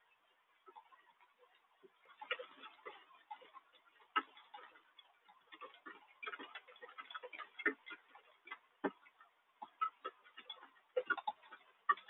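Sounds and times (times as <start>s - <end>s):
raindrops tapping: 0.6s - 12.0s.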